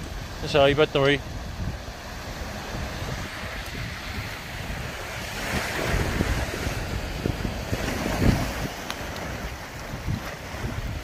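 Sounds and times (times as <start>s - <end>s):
surf breaking on shore: 0.0s - 11.0s
wind buffeting microphone: 0.0s - 11.0s.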